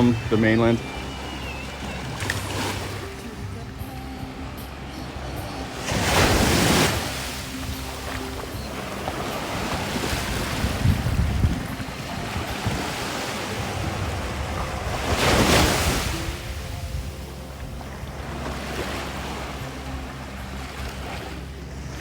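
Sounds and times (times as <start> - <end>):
small waves breaking on beach: 0.0 - 22.0
wind buffeting microphone: 0.0 - 22.0.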